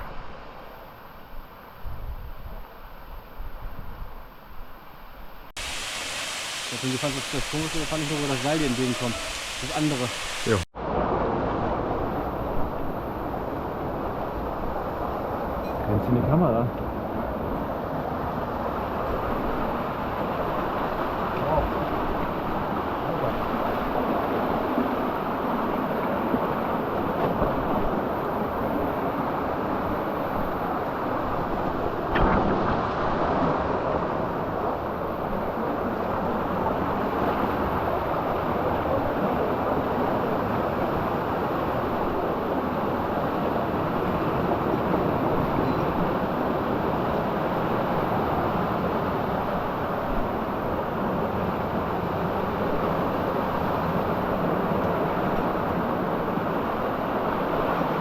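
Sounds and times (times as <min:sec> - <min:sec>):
stream running water: 0:05.5 - 0:10.7, 0:11.8 - 0:58.0.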